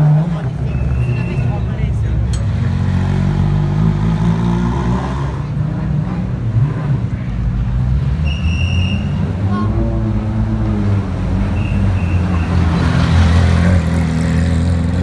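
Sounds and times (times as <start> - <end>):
rally car engine running: 0.0 - 15.0.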